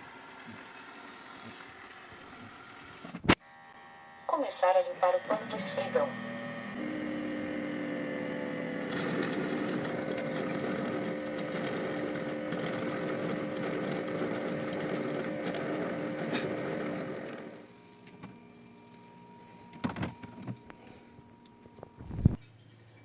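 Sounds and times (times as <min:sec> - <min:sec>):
mop pad motor humming: 0:00.0 - 0:22.4.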